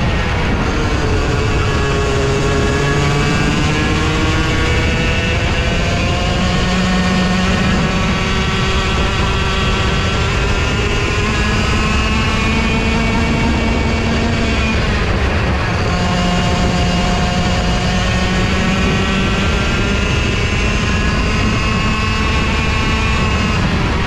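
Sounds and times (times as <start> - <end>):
racing kart engine: 0.0 - 24.0.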